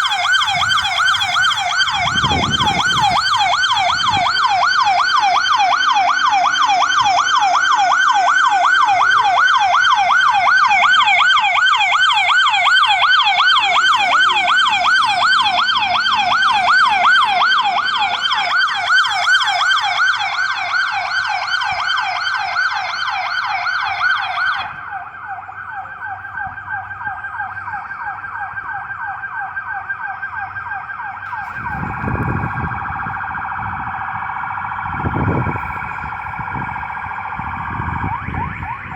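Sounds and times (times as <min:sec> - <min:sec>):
siren yelping: 0:00.0 - 0:38.9
steady siren tone: 0:00.0 - 0:38.9.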